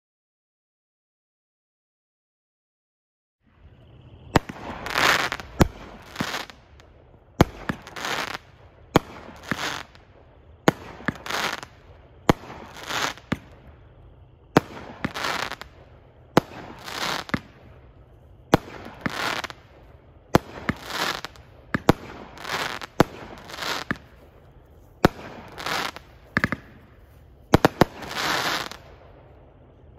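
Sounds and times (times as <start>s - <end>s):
crackling firework bursts: 3.5s - 29.9s.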